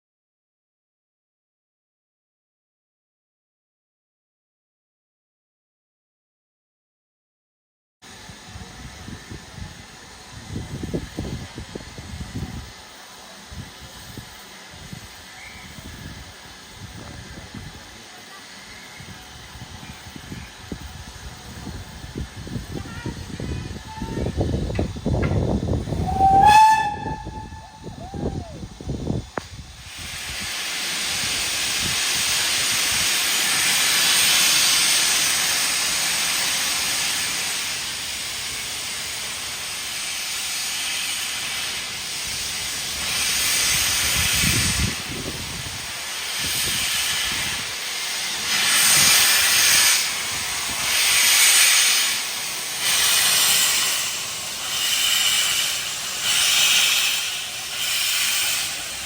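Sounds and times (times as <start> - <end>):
steam hissing: 8.1 - 59.0
steam locomotive exhaust beats: 8.1 - 59.0.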